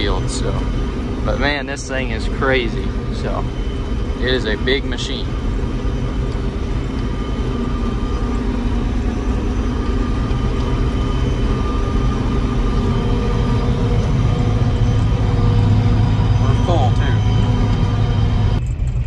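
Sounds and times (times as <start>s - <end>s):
harvester engine droning: 0.0s - 19.0s.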